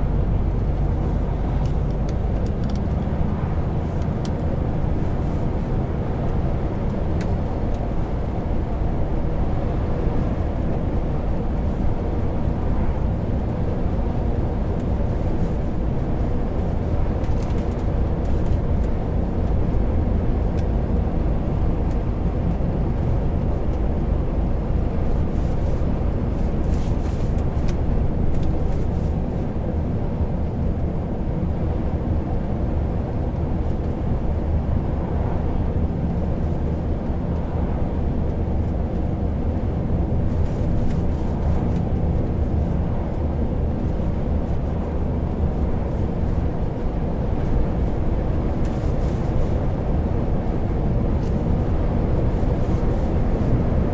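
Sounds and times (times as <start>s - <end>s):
road noise: 0.0s - 53.9s
truck diesel engine: 0.0s - 53.9s.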